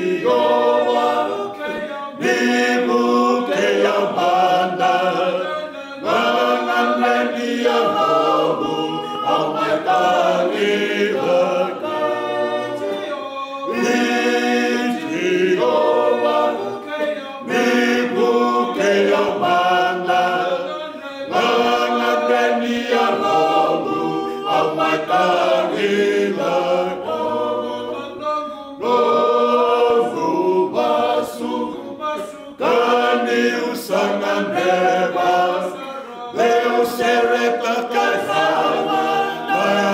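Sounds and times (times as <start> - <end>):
men's choir singing a cappella: 0.0 - 39.9.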